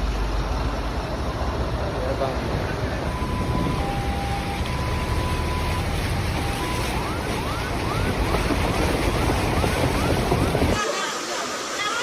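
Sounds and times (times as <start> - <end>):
heavy rain: 0.0 - 12.0
running floodwater: 0.0 - 12.0.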